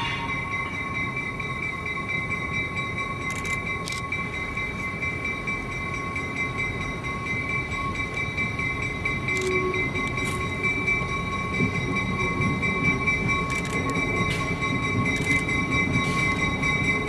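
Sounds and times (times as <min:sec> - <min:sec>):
diesel locomotive rumble: 0:00.0 - 0:17.0.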